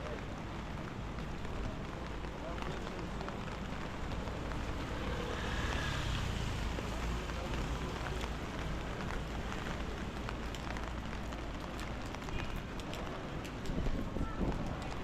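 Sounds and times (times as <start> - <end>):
light rain ticks: 0.0 - 15.0
rain on wet street: 0.0 - 15.0.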